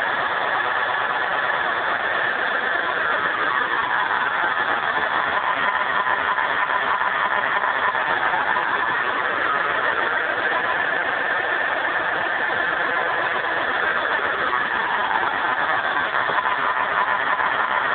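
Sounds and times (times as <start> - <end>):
synthesized diesel engine sound: 0.0 - 17.9.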